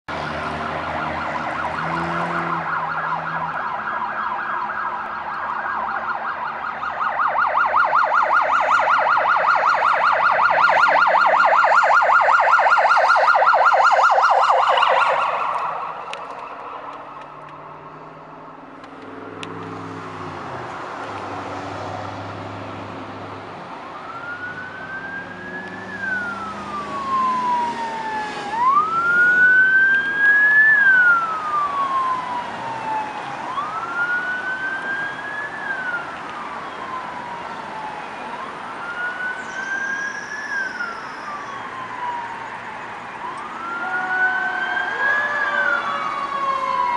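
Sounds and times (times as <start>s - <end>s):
wailing siren: 0.1s - 46.9s
fast warbling siren yelp: 0.6s - 17.7s, 23.8s - 46.9s.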